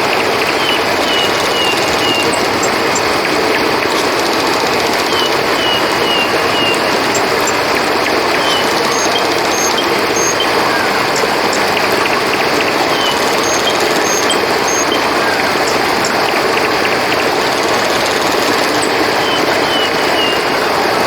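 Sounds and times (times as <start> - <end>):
river flowing: 0.0 - 21.0.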